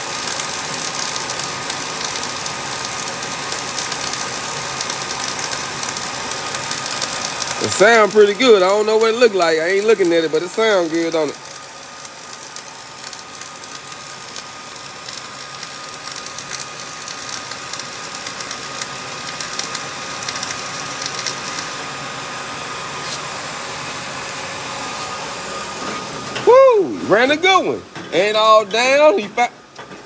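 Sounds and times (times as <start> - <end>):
welding arc crackling: 0.0 - 29.9.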